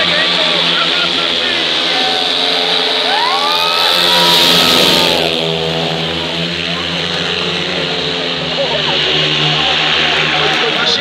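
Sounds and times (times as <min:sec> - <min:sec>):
motorcycle engines racing past: 0:00.0 - 0:11.0.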